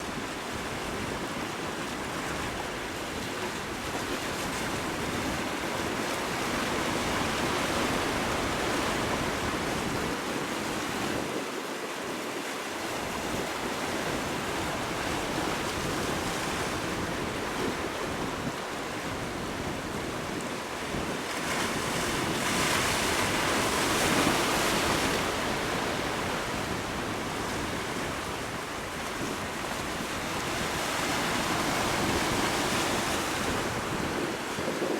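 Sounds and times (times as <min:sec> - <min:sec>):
wind buffeting microphone: 0:00.0 - 0:34.9
sea water rushing: 0:01.4 - 0:34.9.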